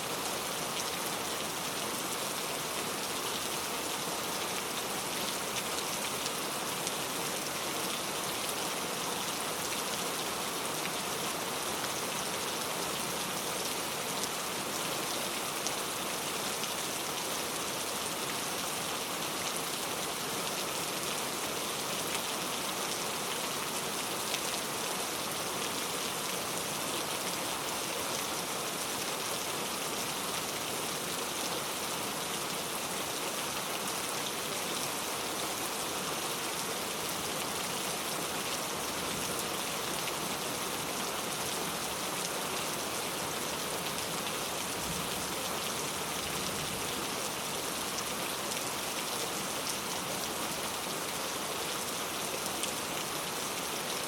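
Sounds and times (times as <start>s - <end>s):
heavy rain on road: 0.1s - 54.0s.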